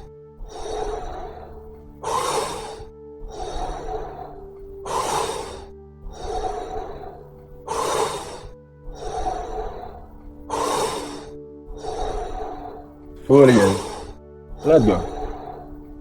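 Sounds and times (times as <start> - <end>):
forceful mouth breathing: 0.0 - 16.0
steady music drone: 0.0 - 16.0.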